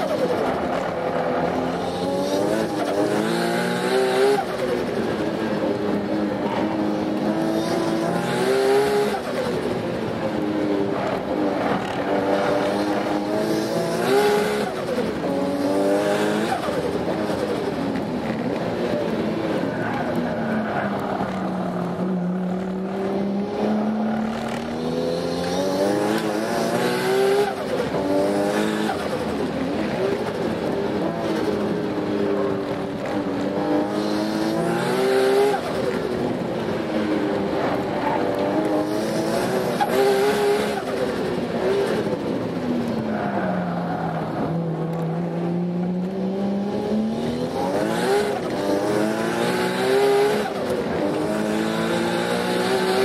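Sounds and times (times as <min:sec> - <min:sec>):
car engine revving through gears: 0:00.0 - 0:53.0.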